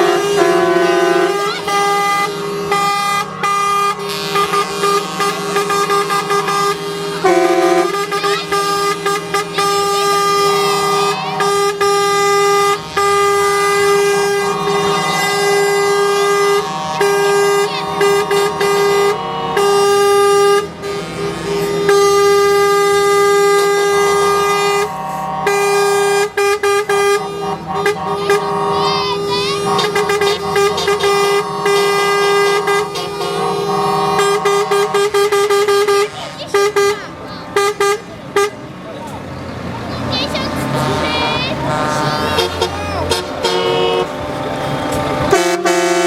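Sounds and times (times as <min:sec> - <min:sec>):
truck air horns: 0:00.0 - 0:46.0.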